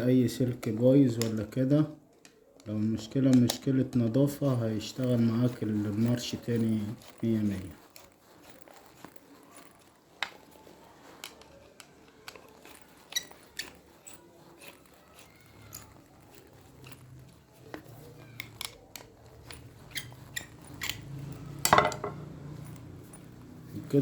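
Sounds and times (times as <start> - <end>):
small metal parts clicking: 2.1 - 23.7.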